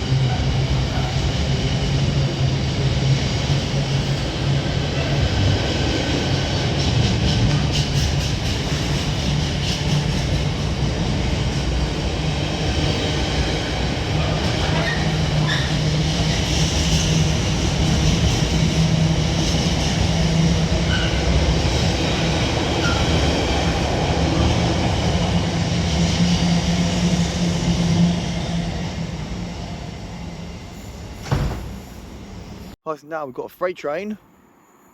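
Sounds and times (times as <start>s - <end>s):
train rolling past: 0.0s - 32.8s.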